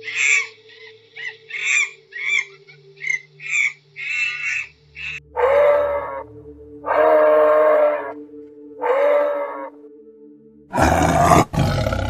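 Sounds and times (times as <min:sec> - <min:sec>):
animal calls: 0:00.0 - 0:08.2, 0:08.8 - 0:09.8, 0:10.8 - 0:12.0.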